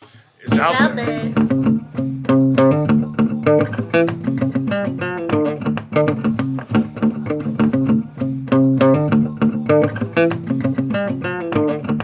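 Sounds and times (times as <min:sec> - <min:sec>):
plucked guitar music with bass: 0:00.5 - 0:12.0.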